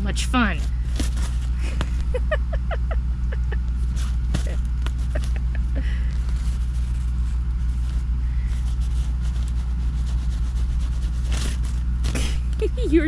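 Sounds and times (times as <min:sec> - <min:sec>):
low machine hum: 0:00.0 - 0:13.0
cat rustling in crinkle tunnel: 0:00.3 - 0:01.8, 0:03.6 - 0:12.9.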